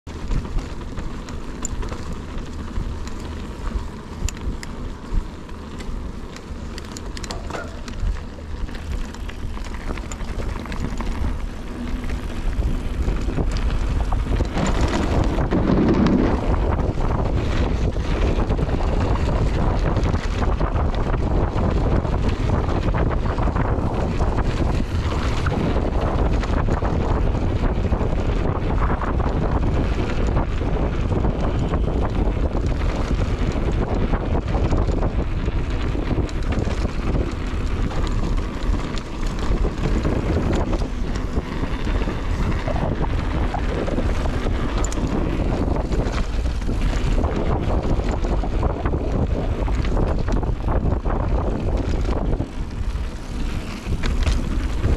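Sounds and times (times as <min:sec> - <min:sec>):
wind rushing over microphone: 0:00.0 - 0:54.9.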